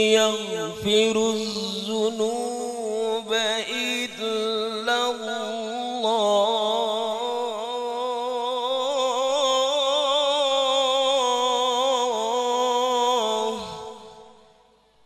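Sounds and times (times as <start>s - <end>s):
man reciting melodically: 0.0s - 14.4s.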